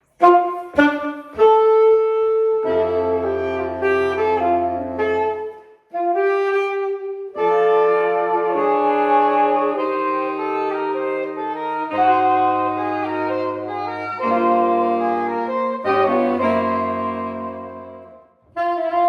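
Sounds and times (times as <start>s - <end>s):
saxophone ensemble playing jazz: 0.0s - 19.0s.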